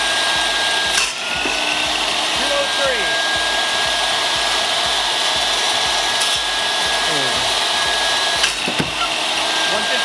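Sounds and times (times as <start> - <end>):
table saw running: 0.0 - 10.0.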